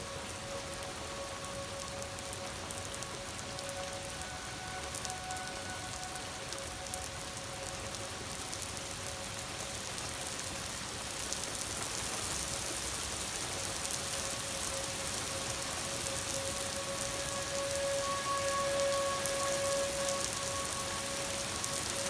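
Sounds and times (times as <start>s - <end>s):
warning siren steady tone: 0.0s - 10.2s, 13.3s - 22.0s
rain falling: 0.0s - 22.0s.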